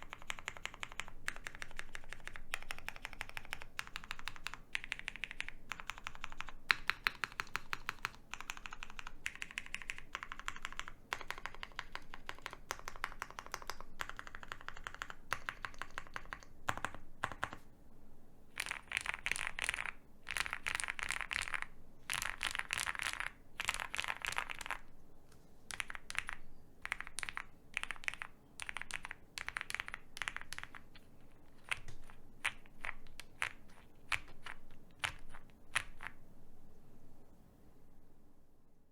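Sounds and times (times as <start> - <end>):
mechanical keyboard typing: 0.0 - 17.6, 18.6 - 24.9, 25.7 - 36.2.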